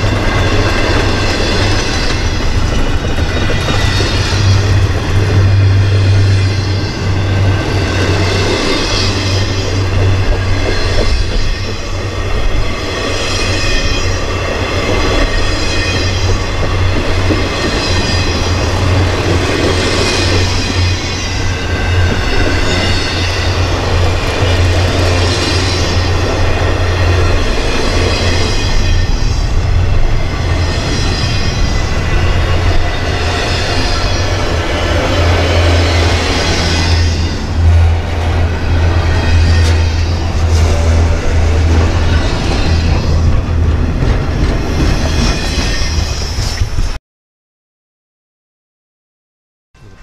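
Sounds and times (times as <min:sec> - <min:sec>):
steel wheels rumbling on rail: 0:00.0 - 0:47.0.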